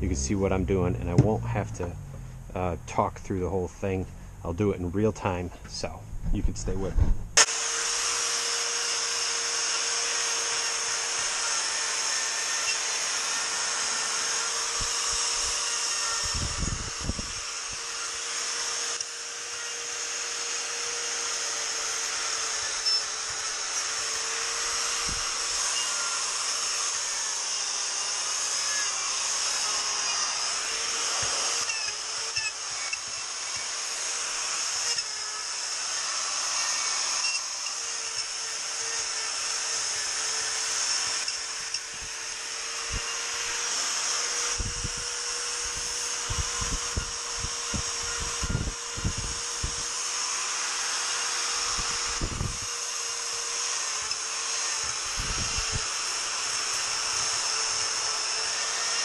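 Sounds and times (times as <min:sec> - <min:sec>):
die grinder grinding wood: 0:00.0 - 0:59.0.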